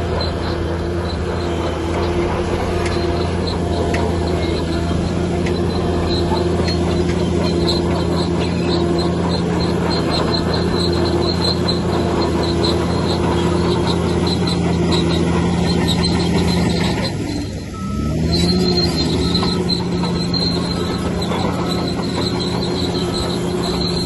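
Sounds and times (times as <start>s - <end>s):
bulldozer diesel engine: 0.0s - 24.0s
high repeating squeak: 0.0s - 24.0s.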